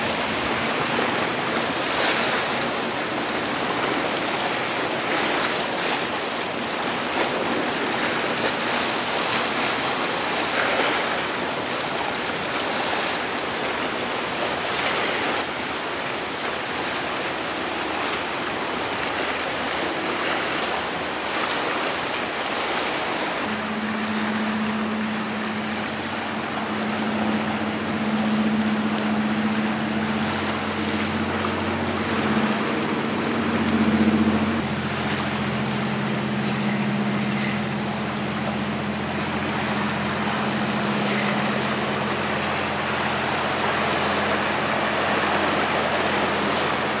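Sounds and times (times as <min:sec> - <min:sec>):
low engine hum: 0:00.0 - 0:47.0
sea: 0:00.0 - 0:47.0
wind: 0:00.0 - 0:47.0.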